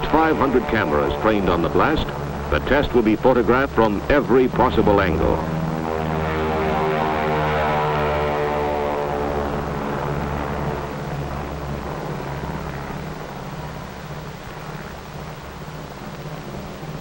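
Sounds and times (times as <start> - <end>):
propeller aircraft droning: 0.0 - 17.0.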